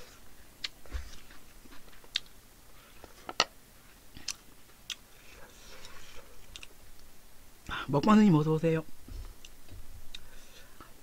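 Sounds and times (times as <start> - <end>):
person chewing food: 0.0 - 7.1, 9.2 - 11.0.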